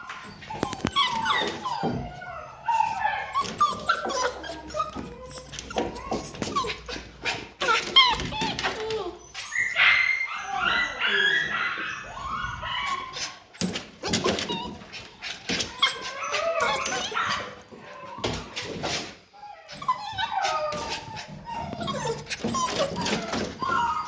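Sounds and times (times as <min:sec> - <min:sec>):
puppy whining and yipping: 0:00.0 - 0:18.8, 0:19.4 - 0:24.0.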